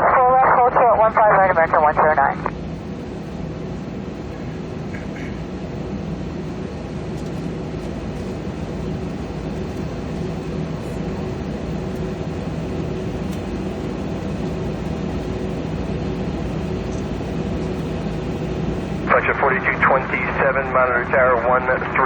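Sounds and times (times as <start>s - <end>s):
airplane cabin drone: 0.0s - 22.0s.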